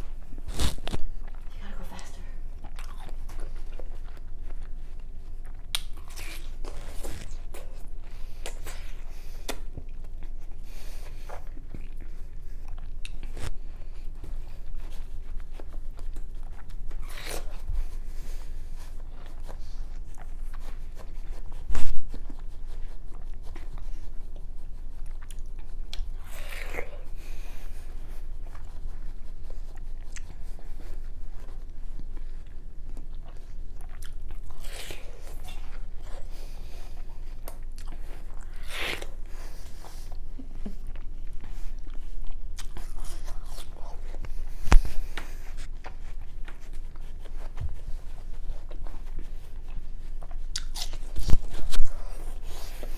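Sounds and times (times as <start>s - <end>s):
biting and chewing watermelon: 0.0s - 52.9s.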